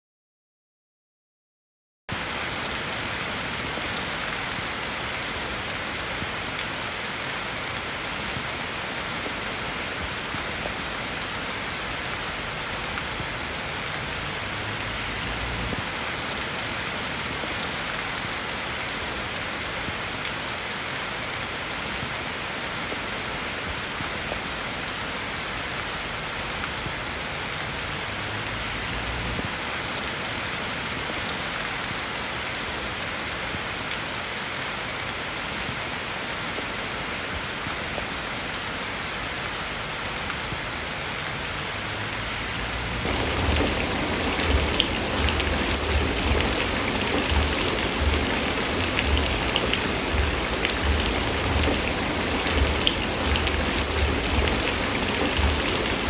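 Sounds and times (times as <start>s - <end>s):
steady rain falling: 2.1s - 56.0s.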